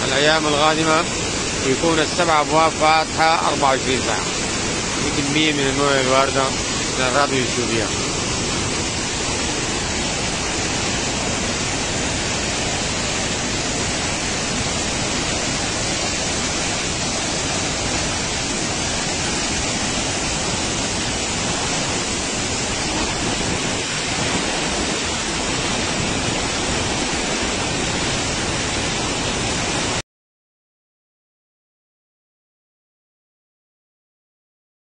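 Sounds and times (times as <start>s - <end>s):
water rushing through spillway: 0.0s - 30.0s.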